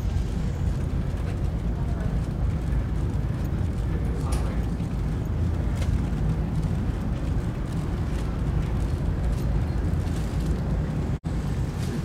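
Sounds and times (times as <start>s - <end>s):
ship machinery rumbling: 0.0s - 12.0s.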